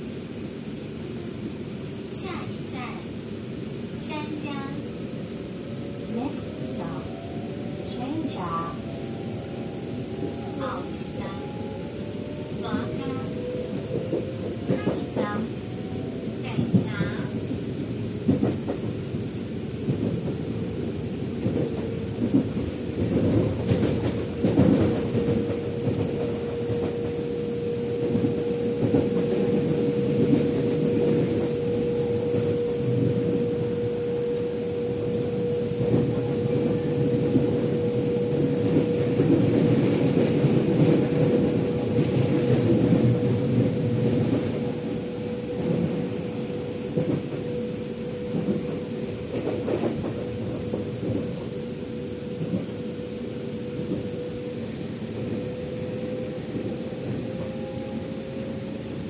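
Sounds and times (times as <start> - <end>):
train low rumble: 0.0 - 59.0.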